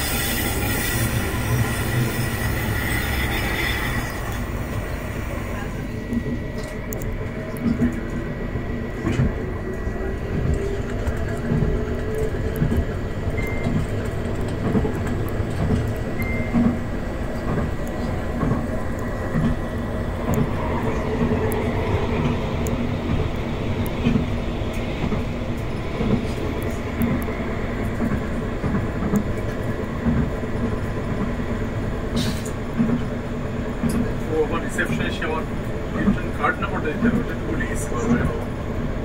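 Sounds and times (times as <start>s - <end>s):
tram wheels rumbling on rail: 0.0s - 39.0s.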